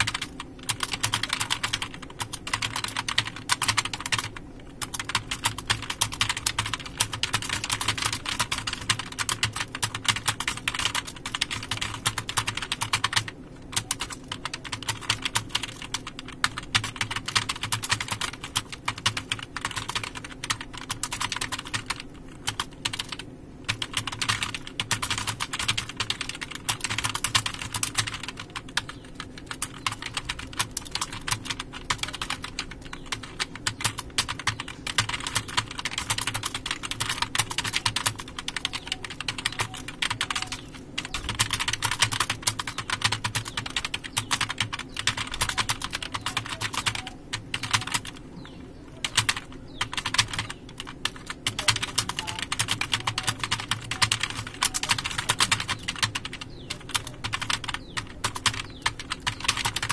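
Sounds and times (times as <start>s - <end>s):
keyboard typing: 0.0s - 59.9s.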